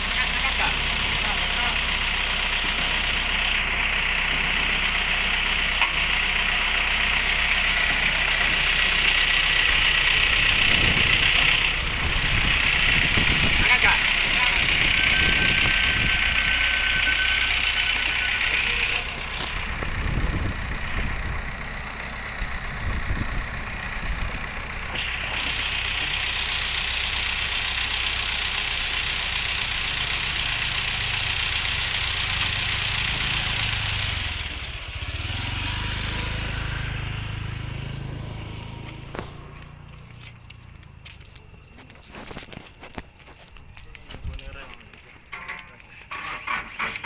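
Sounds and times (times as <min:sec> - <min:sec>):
heavy engine running: 0:00.0 - 0:47.0.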